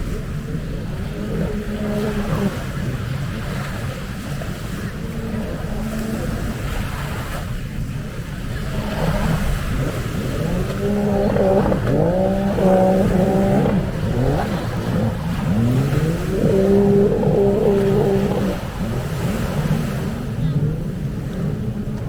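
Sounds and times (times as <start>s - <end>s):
jet ski engines whining: 0.0s - 22.0s
low engine rumble: 0.0s - 22.0s.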